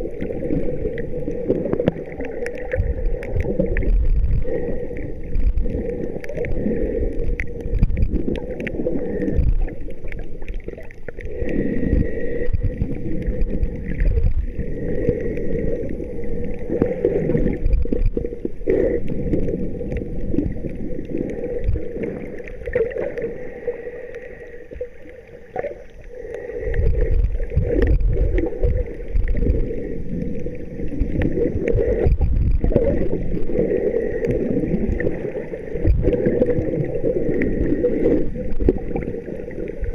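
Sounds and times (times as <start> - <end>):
muffled water sloshing and gurgling: 0.0 - 39.9.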